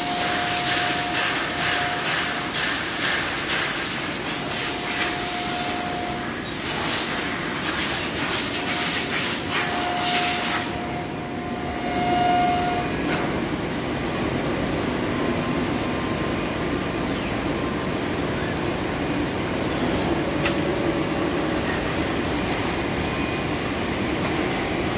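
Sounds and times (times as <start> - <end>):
steady machine hum: 0.0 - 24.9.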